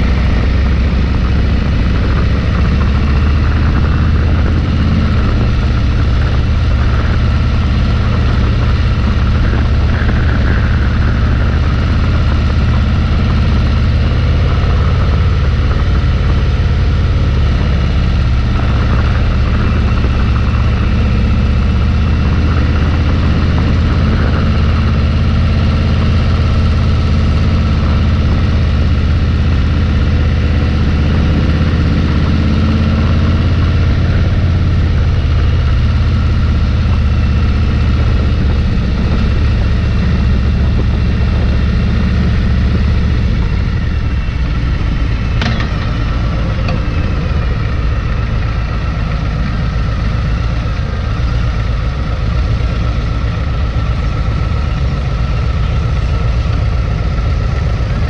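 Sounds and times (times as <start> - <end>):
motorcycle engine drone: 0.0 - 58.0
road noise: 0.0 - 58.0
rushing wind: 0.0 - 58.0.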